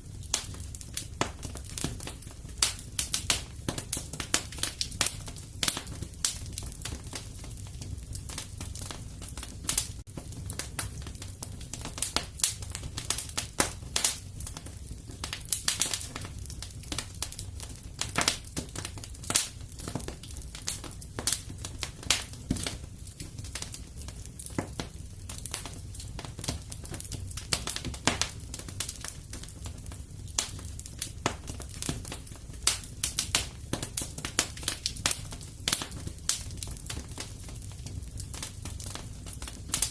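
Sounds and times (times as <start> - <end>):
fire crackling and popping: 0.0 - 39.9
low rumble of flame: 0.0 - 39.9.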